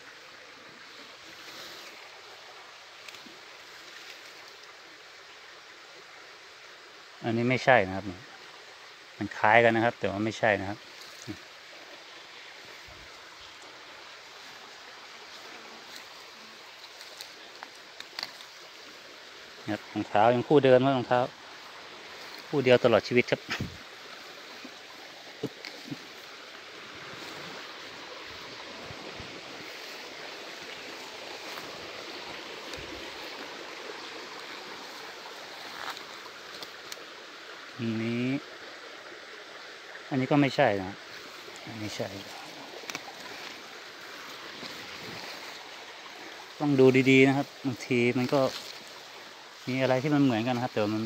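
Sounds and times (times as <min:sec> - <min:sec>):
fern foliage brushing: 0:00.0 - 0:05.3, 0:09.2 - 0:37.9, 0:40.1 - 0:51.0
faint rushing forest stream: 0:00.0 - 0:51.0.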